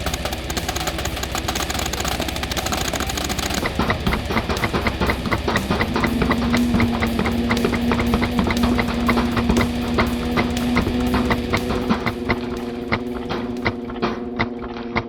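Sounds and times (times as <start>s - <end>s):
fast sharp clicking beat: 0.0s - 14.7s.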